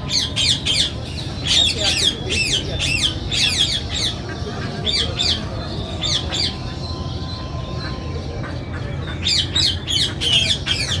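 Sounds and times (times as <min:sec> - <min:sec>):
birds chirping and squawking: 0:00.0 - 0:11.0.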